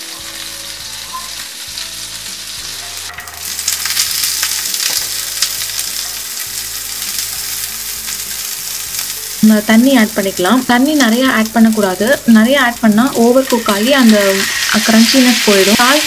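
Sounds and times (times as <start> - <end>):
butter sizzling in pan: 0.0 - 16.0.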